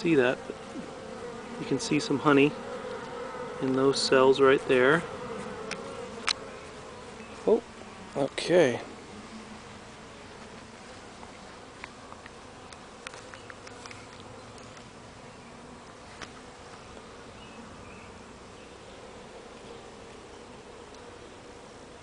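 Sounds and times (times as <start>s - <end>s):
bees humming: 0.0s - 22.0s.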